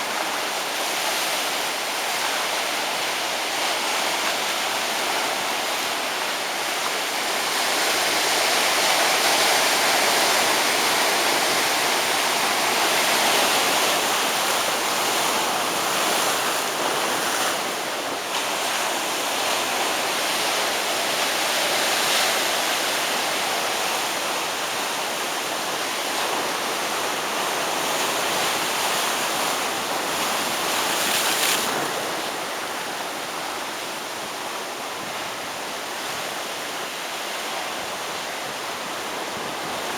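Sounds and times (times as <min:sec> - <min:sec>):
surf waves crashing on beach: 0:00.0 - 0:39.9.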